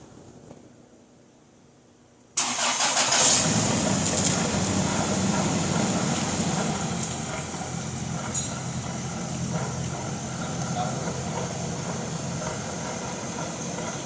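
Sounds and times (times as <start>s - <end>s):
car engine starting and idling: 2.3s - 14.0s.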